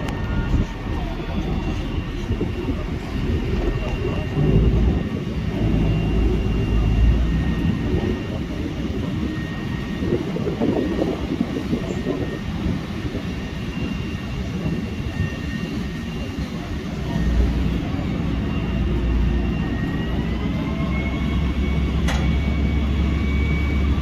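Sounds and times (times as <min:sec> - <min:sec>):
diesel machinery engine rumble: 0:00.0 - 0:24.0
faint high whine: 0:00.0 - 0:24.0.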